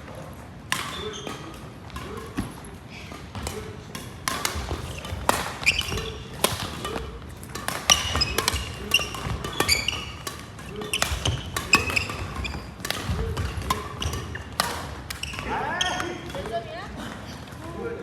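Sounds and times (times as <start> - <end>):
sneakers squeaking on court: 0.0 - 17.6
racket hitting shuttlecock: 0.7 - 16.6.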